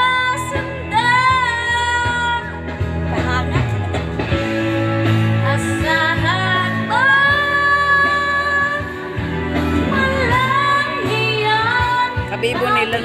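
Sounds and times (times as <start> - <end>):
woman singing: 0.0 - 3.8, 5.4 - 13.0
guitar accompaniment: 0.0 - 13.0.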